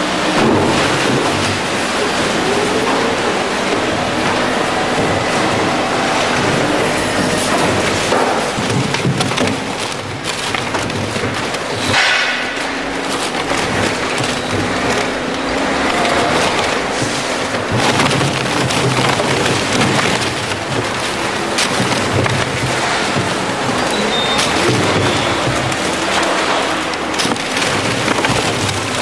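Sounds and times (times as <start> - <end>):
shredder crushing cardboard: 0.0 - 29.0.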